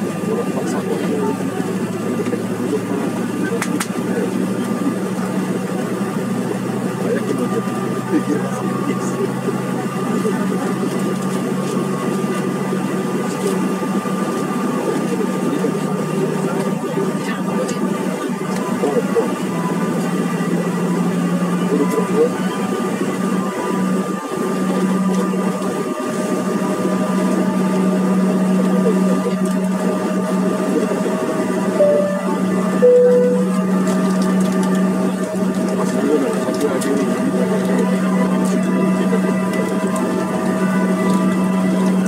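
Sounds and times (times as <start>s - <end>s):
jet engines idling hum: 0.0s - 42.0s.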